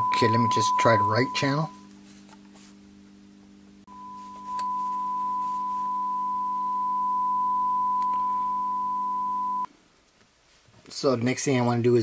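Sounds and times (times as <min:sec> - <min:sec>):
low hum: 0:00.0 - 0:09.7
sine wave test tone: 0:00.0 - 0:09.7.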